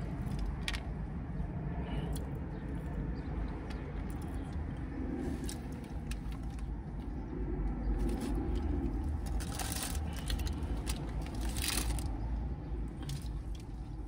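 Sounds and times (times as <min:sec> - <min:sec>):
food crunching and chewing: 0:00.0 - 0:00.9, 0:02.1 - 0:14.0
low rumble: 0:00.0 - 0:14.0.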